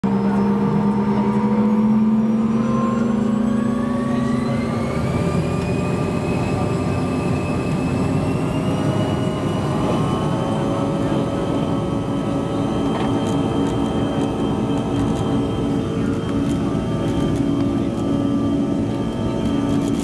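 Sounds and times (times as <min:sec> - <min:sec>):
jet engines spooling up: 0:00.1 - 0:20.0.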